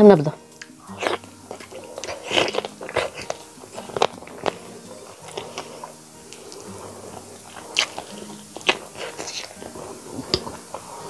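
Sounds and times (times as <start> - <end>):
wet chewing: 0.2 - 11.0
lip smacks: 0.5 - 11.0
sucking on meat: 0.5 - 11.0
sharp mouth clicks: 0.6 - 10.7.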